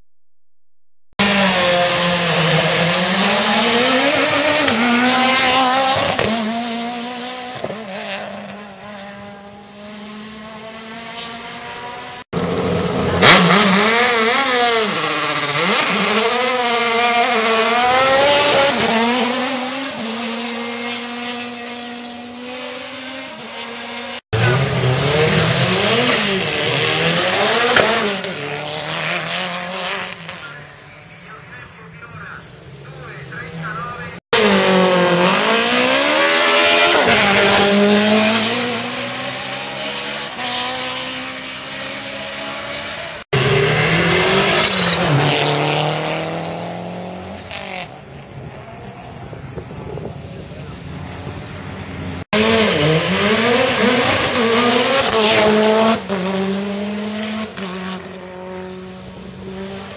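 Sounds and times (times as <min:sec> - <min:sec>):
race car engines accelerating: 0:01.2 - 0:59.9.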